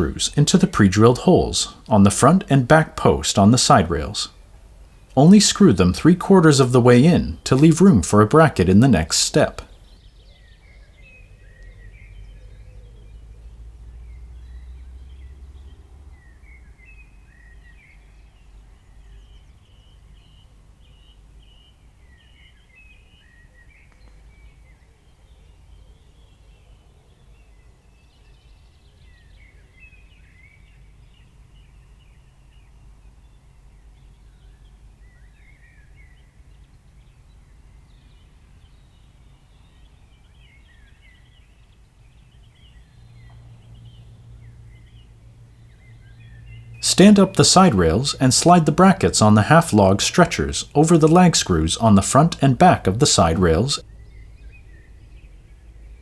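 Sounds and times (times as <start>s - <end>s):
faint birds chirping: 0.0s - 56.0s.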